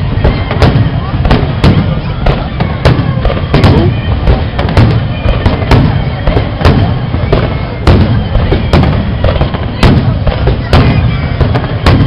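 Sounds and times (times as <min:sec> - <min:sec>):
fireworks bursting with loud bangs: 0:00.0 - 0:12.0.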